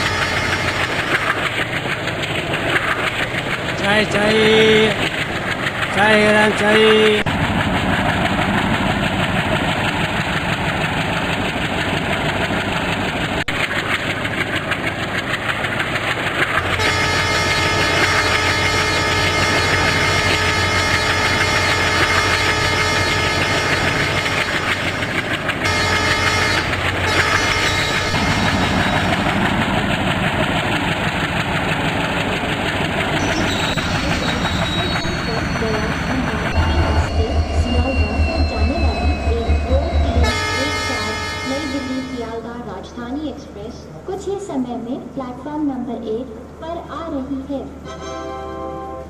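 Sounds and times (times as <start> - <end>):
train engine rumbling: 0.0 - 45.1.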